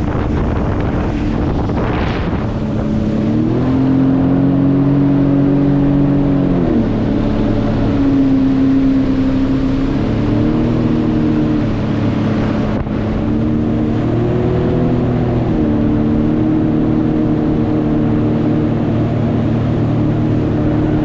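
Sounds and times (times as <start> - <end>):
jet ski engine running: 0.0 - 21.0
low rumble of water and wind: 0.0 - 21.0.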